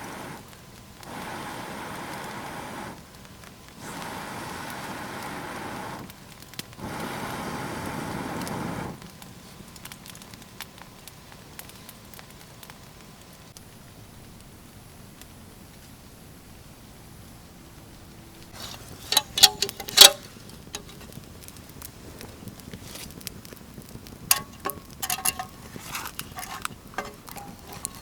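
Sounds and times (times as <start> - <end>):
fire popping and snapping: 0.0 - 15.9, 18.4 - 28.0
campfire crackling: 0.0 - 17.0, 18.3 - 28.0.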